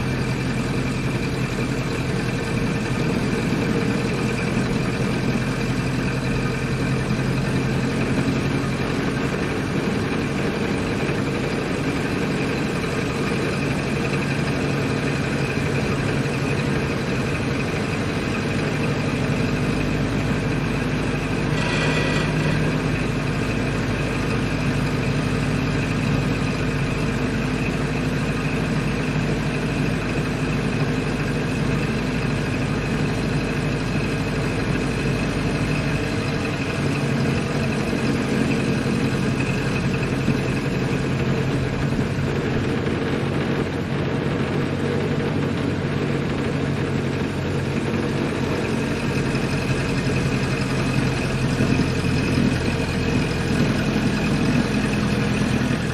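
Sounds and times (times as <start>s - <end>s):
car engine running: 0.0s - 55.9s.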